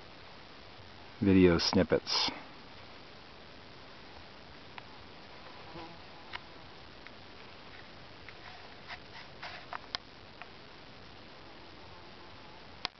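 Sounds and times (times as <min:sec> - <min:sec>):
faint hiss: 0:00.0 - 0:12.9.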